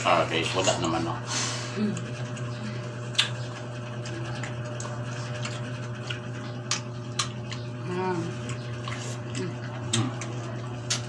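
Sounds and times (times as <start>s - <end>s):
steady low hum: 0.0s - 11.0s
wet chewing mouth clicks: 1.9s - 11.0s.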